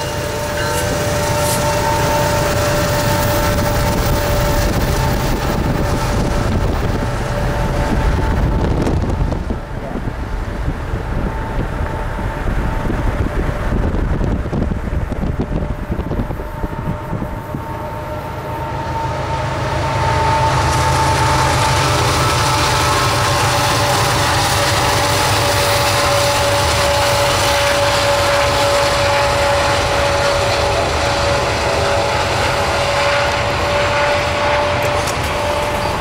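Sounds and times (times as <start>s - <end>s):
freight train rumbling on rails: 0.0s - 36.0s
high whine: 0.0s - 36.0s.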